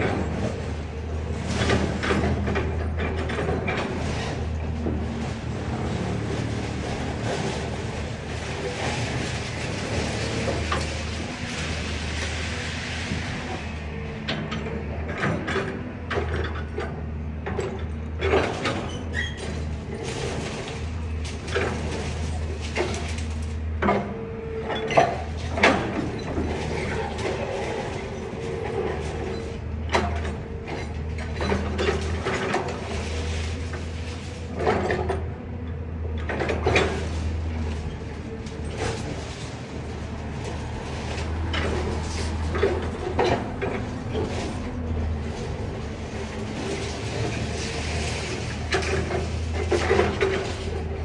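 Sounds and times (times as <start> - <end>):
bucket and debris clanking: 0.0 - 14.0, 18.3 - 24.1, 24.7 - 35.2, 36.3 - 51.0
excavator diesel engine running: 0.0 - 51.0.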